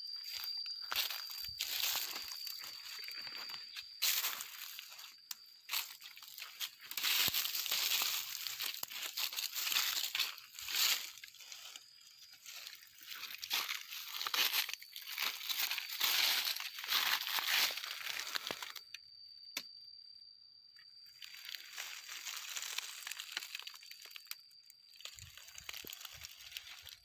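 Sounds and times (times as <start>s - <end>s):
dry leaves rustling and crunching: 0.2s - 18.8s, 21.2s - 24.4s, 25.0s - 27.0s.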